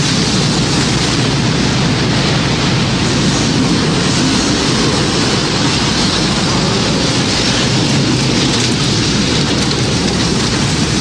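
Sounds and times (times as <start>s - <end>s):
heavy rain: 0.0s - 11.0s
strong wind roaring: 0.0s - 11.0s.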